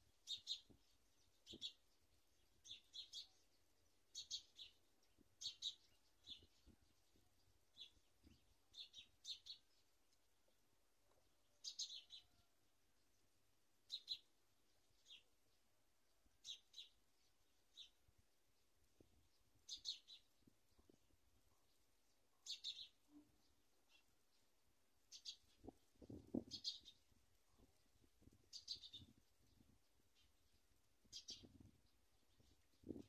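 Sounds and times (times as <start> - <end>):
bird chirping: 0.0 - 13.2, 13.8 - 33.0.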